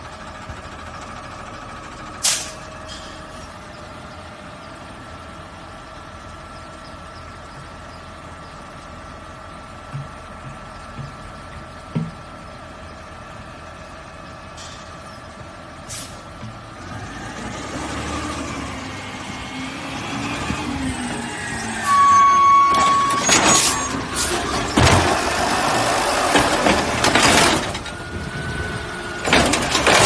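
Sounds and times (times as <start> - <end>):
garbage truck idling with whine: 0.0 - 30.0.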